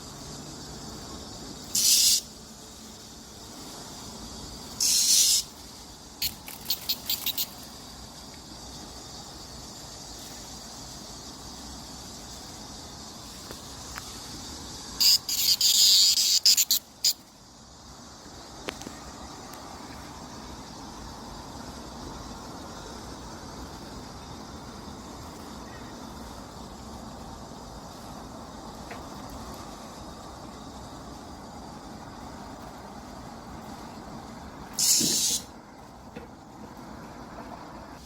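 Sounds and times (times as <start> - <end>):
cicadas buzzing and pulsing: 0.0 - 38.0
high hum of cicadas: 0.0 - 38.0.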